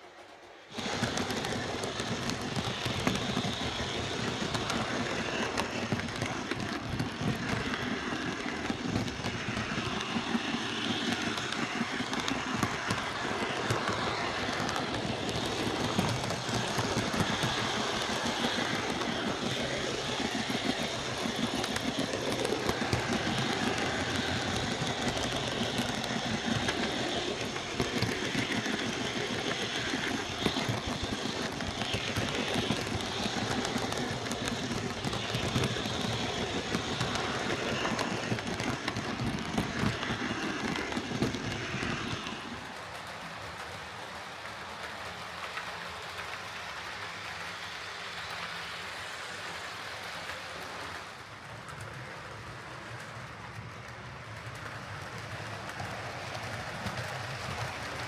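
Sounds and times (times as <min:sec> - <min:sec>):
model train running on track: 0:00.0 - 0:58.0
wheel clicks on rails: 0:00.0 - 0:58.0.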